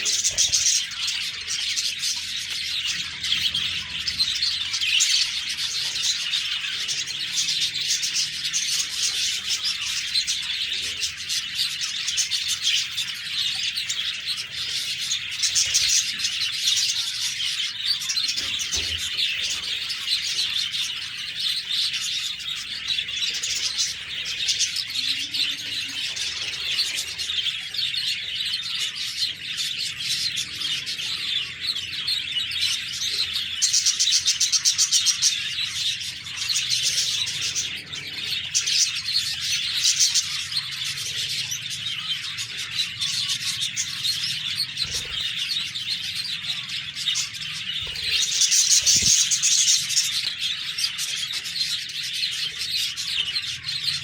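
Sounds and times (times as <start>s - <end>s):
budgerigars chirping and warbling: 0.0s - 54.0s.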